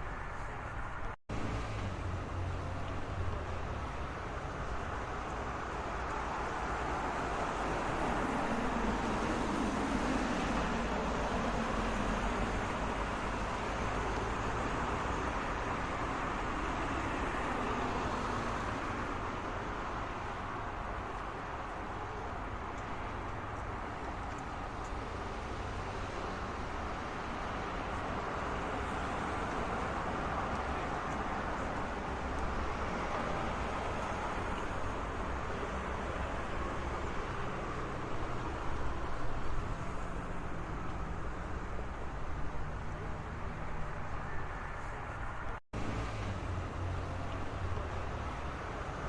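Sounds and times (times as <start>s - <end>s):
road traffic: 0.0s - 49.0s.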